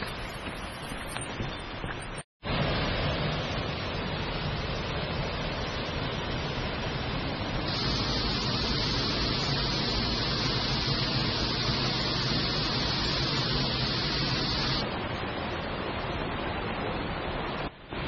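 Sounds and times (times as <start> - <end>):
waterfall rushing into pool: 2.4 - 18.0.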